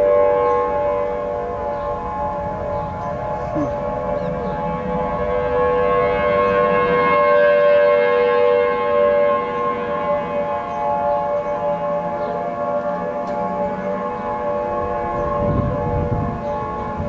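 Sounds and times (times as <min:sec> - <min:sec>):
tornado siren chord: 0:00.0 - 0:17.0.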